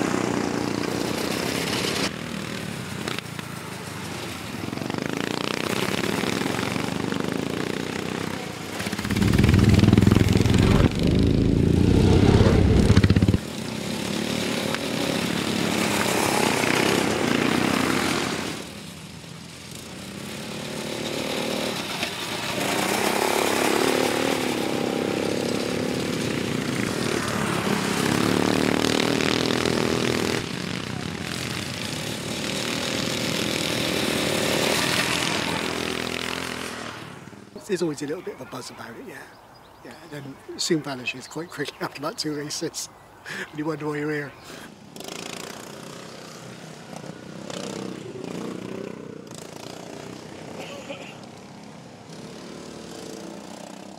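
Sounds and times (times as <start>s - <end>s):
lawnmower engines passing by: 0.0s - 53.9s.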